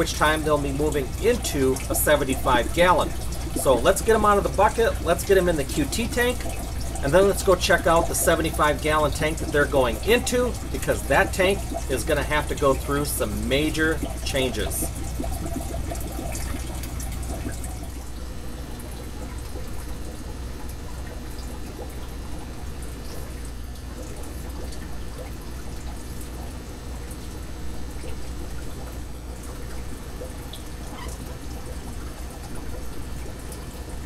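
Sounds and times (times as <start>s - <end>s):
small water drips: 0.0s - 34.0s
steady low hum: 0.0s - 34.0s
water trickling in a bucket: 0.0s - 34.0s.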